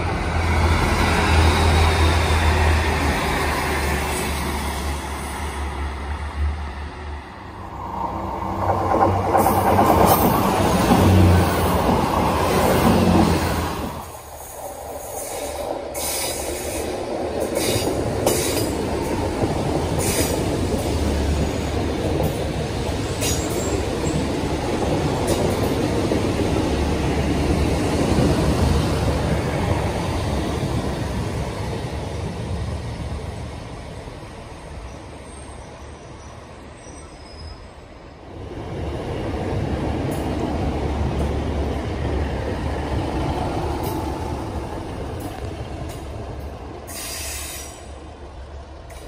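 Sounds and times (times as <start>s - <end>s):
diesel train passing: 0.0s - 49.0s.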